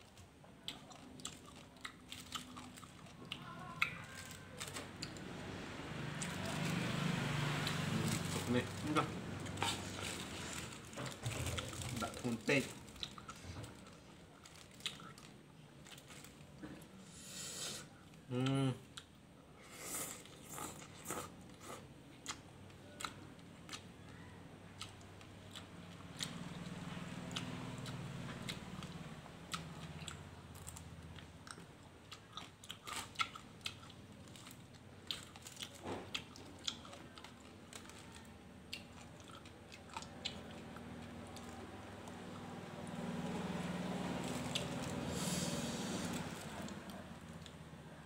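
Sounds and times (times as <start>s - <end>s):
chewing and crunching: 0.0s - 17.0s, 20.0s - 48.0s.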